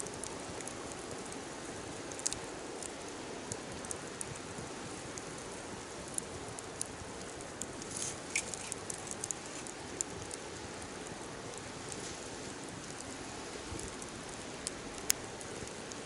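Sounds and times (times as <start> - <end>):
fire crackling and popping: 0.0 - 16.0
wood fire hissing: 0.0 - 16.0.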